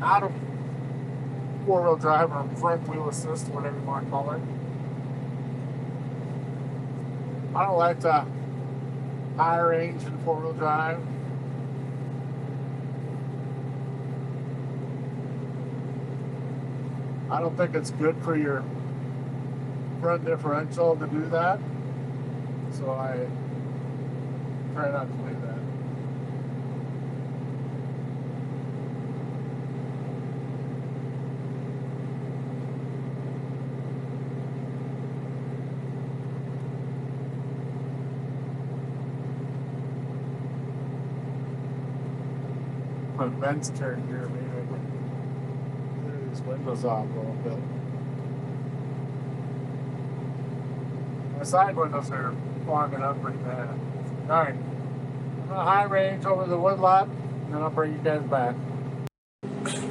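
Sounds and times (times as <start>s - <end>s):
tractor diesel engine running: 0.0s - 58.6s.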